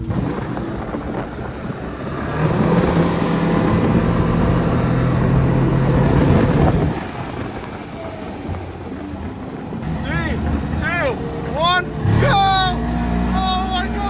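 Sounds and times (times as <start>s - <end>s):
snowmobile engine running hard: 0.0s - 14.0s.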